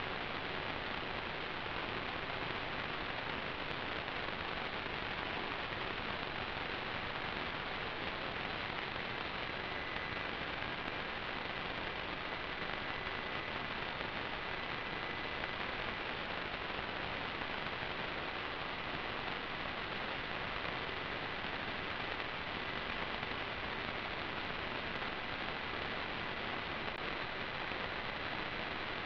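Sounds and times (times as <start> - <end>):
faint high-pitched whine: 0.0 - 29.0
static hiss: 0.0 - 29.0.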